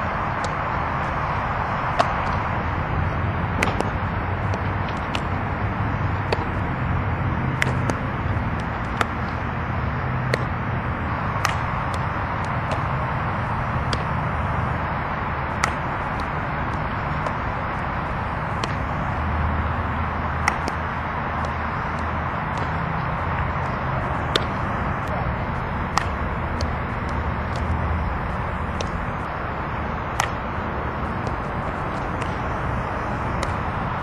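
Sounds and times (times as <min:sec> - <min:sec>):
softballs hit and caught in glove: 0:00.0 - 0:34.0
steady outdoor rumble: 0:00.0 - 0:34.0.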